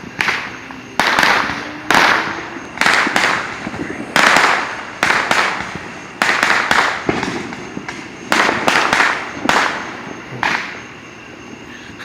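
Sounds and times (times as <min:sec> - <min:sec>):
fireworks exploding: 0:00.0 - 0:11.6.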